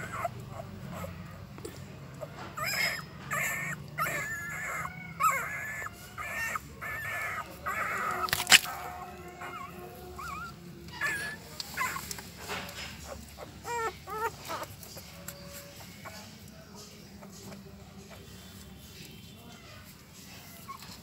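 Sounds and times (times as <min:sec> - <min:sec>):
puppies squeaking and whimpering: 0:00.0 - 0:18.9, 0:19.7 - 0:21.0.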